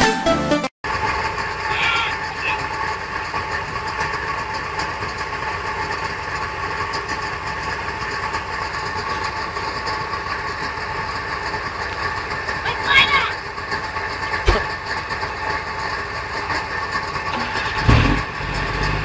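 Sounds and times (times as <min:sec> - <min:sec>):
haul truck engine running: 0:00.8 - 0:19.0.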